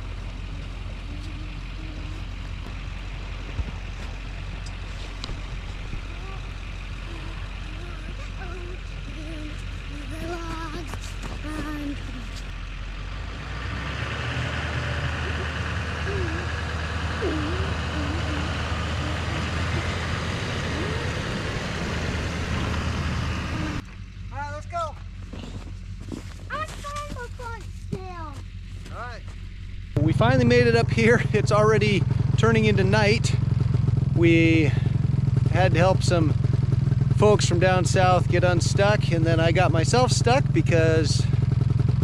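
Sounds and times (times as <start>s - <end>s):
road noise: 0.0s - 42.0s
truck engine rumbling: 0.0s - 42.0s.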